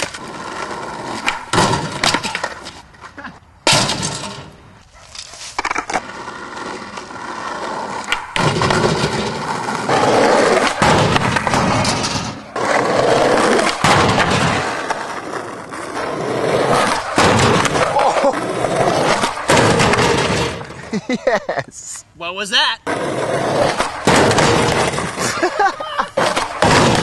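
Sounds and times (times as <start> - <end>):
skateboard clacks: 0.0 - 4.4, 5.2 - 20.9, 22.9 - 27.0
skateboard wheels rolling on pavement: 0.0 - 21.4, 22.7 - 27.0.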